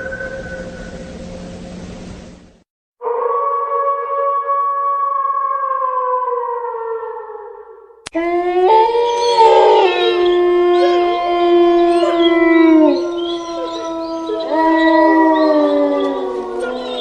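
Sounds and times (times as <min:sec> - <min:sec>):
wolves howling: 0:00.0 - 0:01.4, 0:03.0 - 0:17.0.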